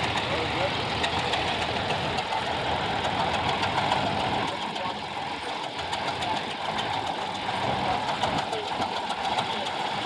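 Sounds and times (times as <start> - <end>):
tractor engine knocking: 0.0 - 10.0.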